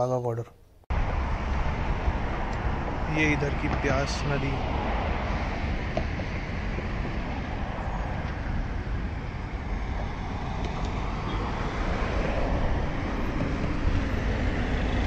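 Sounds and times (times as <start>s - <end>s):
moving vehicle rumble: 0.9s - 15.0s.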